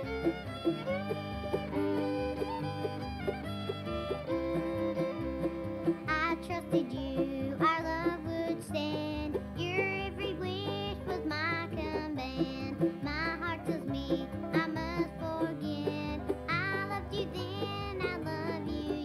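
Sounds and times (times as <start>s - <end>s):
bluegrass music from cassette: 0.0s - 19.0s.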